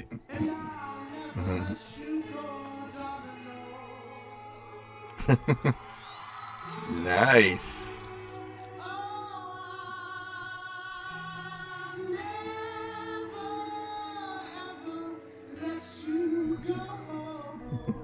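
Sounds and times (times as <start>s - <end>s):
person singing a slow ballad: 0.0s - 5.6s, 7.9s - 18.0s
soft instrumental accompaniment: 0.0s - 6.0s, 6.6s - 18.0s.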